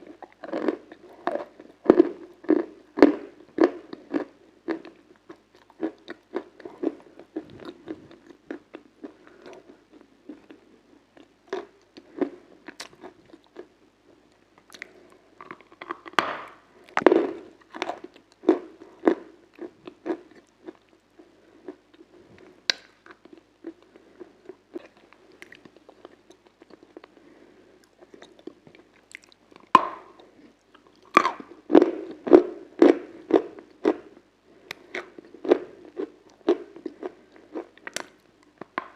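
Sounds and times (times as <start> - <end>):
biting and chewing crunchy food: 0.0 - 38.9.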